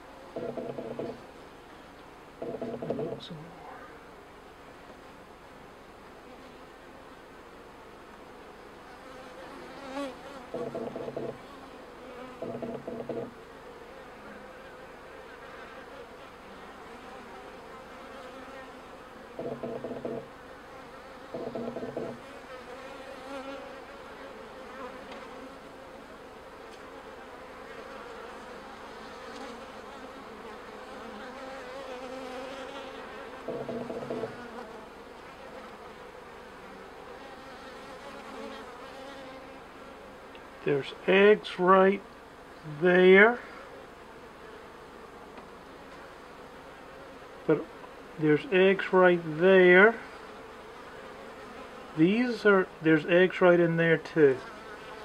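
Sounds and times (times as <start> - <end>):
loud bee buzzes: 0.0 - 4.4, 7.7 - 55.0
honeybees humming: 0.0 - 55.0.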